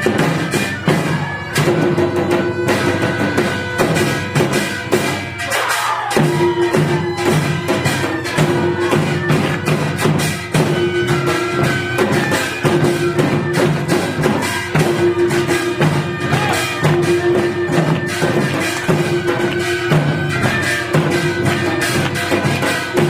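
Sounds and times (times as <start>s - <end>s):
fast barrel drum strokes: 0.0s - 23.0s
wavering melody: 0.0s - 23.0s.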